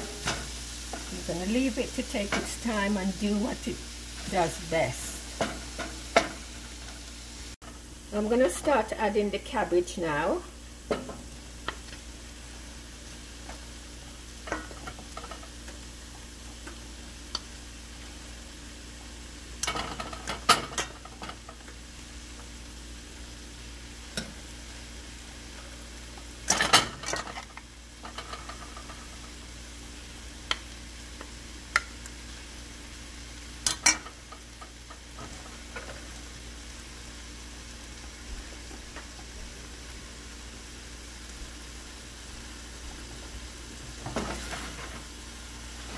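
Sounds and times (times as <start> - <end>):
vegetables sizzling in frying pan: 0.0 - 45.9.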